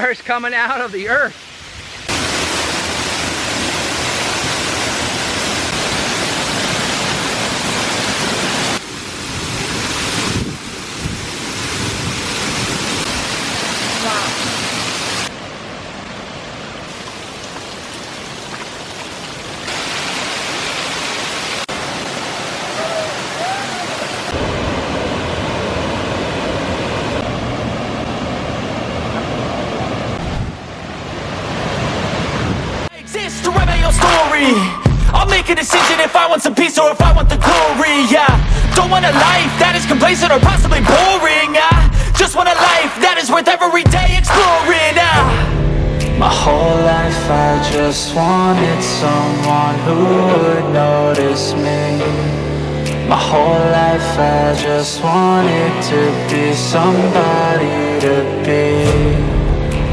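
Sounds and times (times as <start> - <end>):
waterfall rushing: 0.0 - 52.2.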